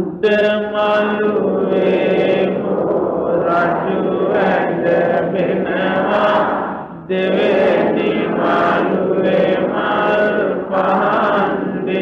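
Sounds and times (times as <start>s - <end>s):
person chanting: 0.0s - 12.0s.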